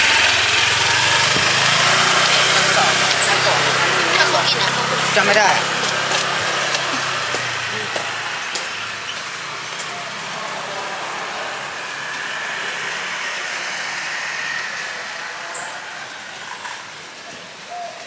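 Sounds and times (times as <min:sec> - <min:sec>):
vehicle engine running: 0:00.0 - 0:17.6
steady background hum: 0:00.0 - 0:17.8.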